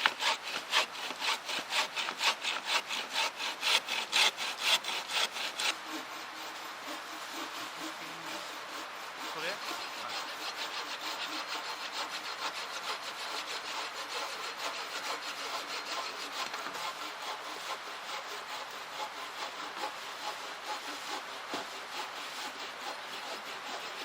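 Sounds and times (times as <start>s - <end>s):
hand saw cutting wood: 0.0s - 24.0s.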